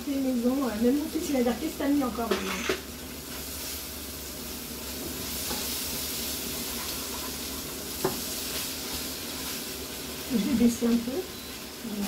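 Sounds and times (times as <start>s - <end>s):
seafood sizzling in frying pan: 0.0s - 12.0s.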